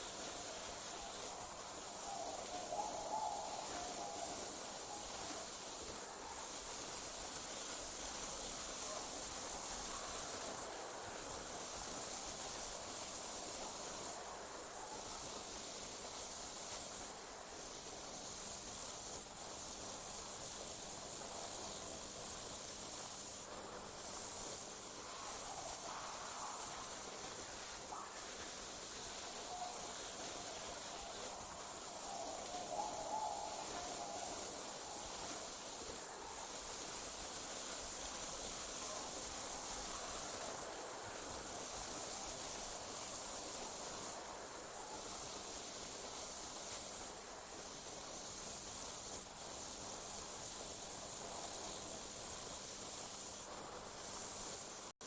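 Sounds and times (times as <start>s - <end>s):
crickets trilling: 0.0s - 17.0s, 17.6s - 54.8s.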